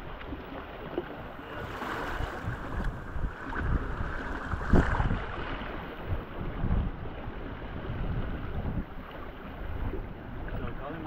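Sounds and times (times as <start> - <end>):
water splashing along boat hull: 0.0 - 11.0
wind buffeting microphone: 0.0 - 11.0.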